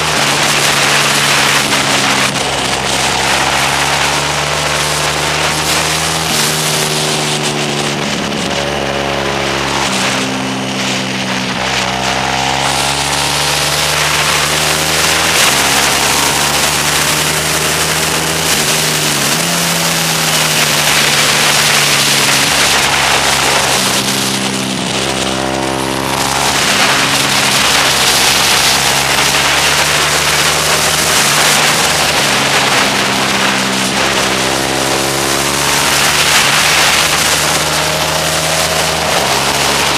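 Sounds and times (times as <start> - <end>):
motorcycle engine accelerating: 0.0 - 39.9
wind on microphone: 0.0 - 39.9.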